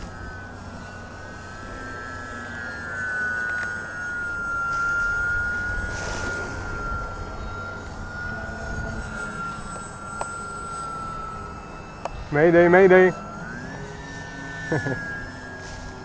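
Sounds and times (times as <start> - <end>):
model plane motors whining: 0.0 - 16.0.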